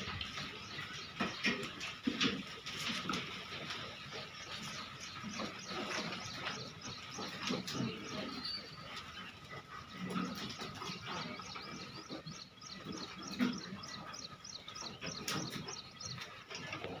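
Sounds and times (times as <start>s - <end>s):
rural outdoor background: 0.0s - 17.0s
small bird chirping: 3.0s - 17.0s.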